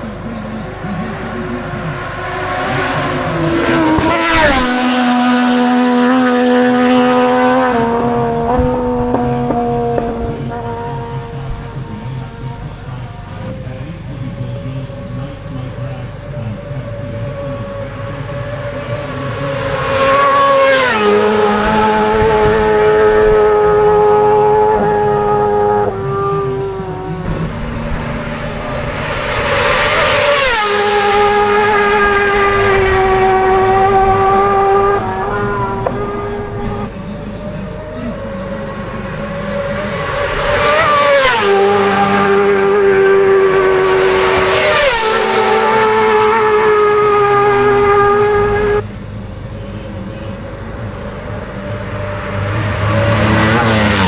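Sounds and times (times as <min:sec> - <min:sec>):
low engine hum: 0:00.0 - 0:54.0
motorcycle passing at full throttle: 0:00.0 - 0:54.0.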